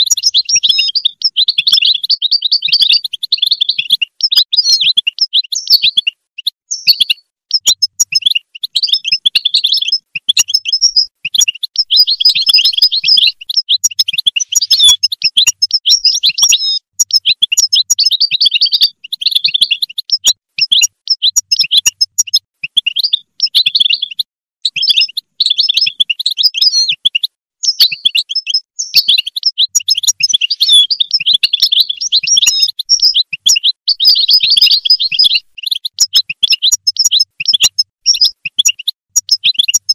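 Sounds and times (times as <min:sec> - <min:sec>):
goldfinch twittering: 0:00.0 - 0:06.1, 0:06.7 - 0:39.9.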